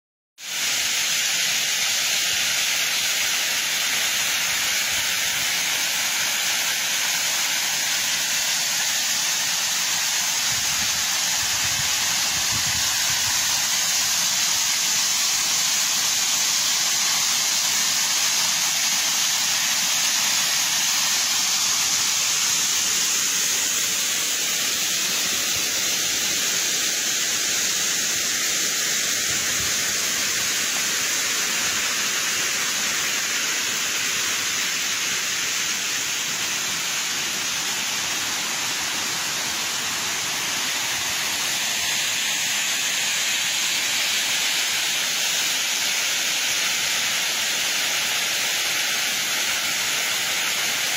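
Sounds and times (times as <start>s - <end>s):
small waterfall rushing: 0.4s - 50.9s.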